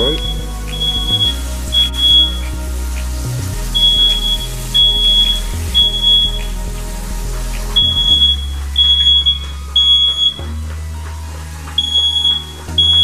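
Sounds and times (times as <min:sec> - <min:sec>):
smoke alarm beeping: 0:00.0 - 0:03.1, 0:03.7 - 0:06.9, 0:07.7 - 0:13.0.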